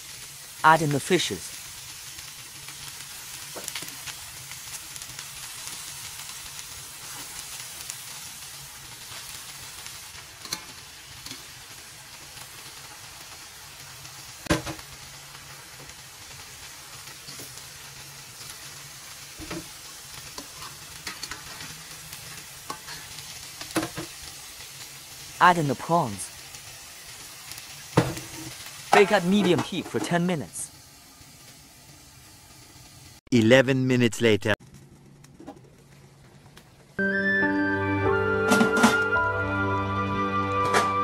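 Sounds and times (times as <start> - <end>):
oil sizzling in a wok: 0.0 - 33.3.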